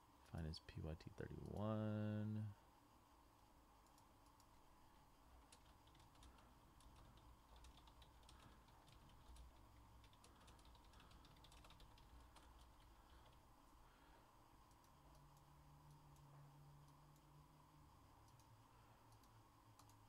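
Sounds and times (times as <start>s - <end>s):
faint keyboard typing: 0.2s - 2.2s, 3.4s - 20.0s.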